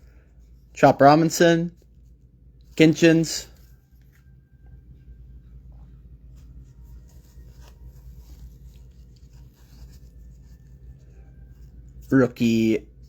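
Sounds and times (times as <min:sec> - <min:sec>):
low hum: 0:01.7 - 0:13.0.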